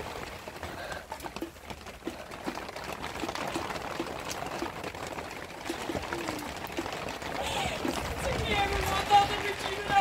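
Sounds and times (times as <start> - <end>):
water drips and plops: 0.0 - 8.4
water rushing: 0.0 - 10.0.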